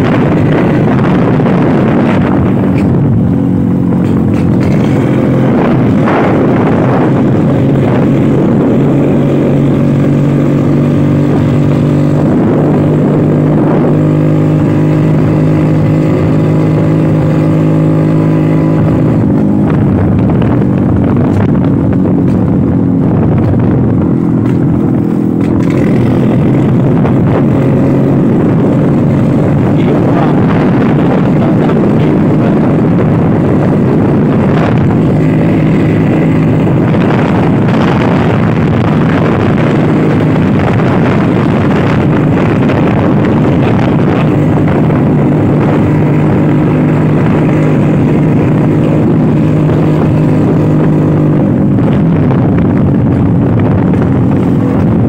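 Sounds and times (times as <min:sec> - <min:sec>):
dense rushing noise: 0:00.0 - 0:55.0
scooter engine running: 0:00.0 - 0:55.0.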